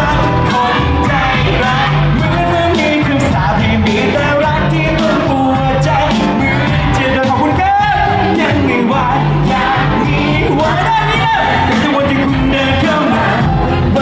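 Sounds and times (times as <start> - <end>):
live band playing: 0.0 - 14.0
man singing pop ballad: 0.0 - 14.0.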